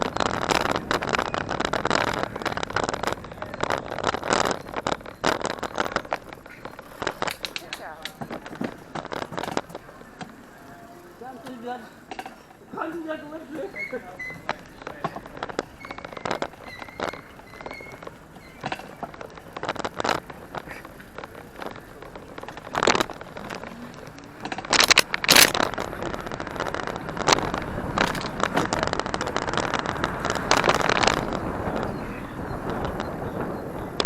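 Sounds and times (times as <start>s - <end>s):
rushes of noise: 0.0s - 12.8s, 13.8s - 34.0s
vehicle ride clicks and knocks: 0.0s - 34.0s.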